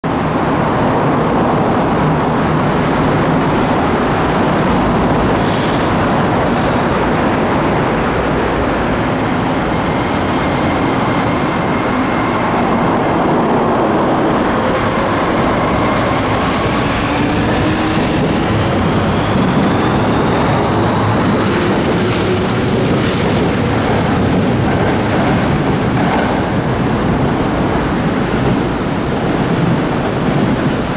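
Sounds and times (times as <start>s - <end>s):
train running rumble: 0.1s - 30.9s.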